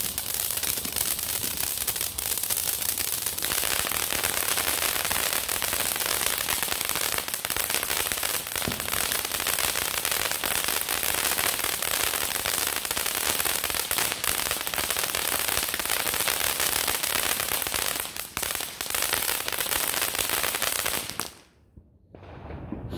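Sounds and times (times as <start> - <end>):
firework fountain hissing and crackling: 0.0 - 21.5.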